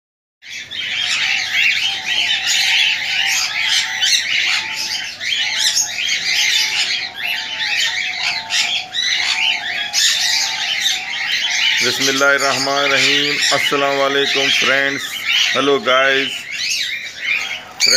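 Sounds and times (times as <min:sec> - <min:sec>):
birds chirping and squawking: 0:00.4 - 0:17.9
low wavering bird call: 0:00.6 - 0:17.9.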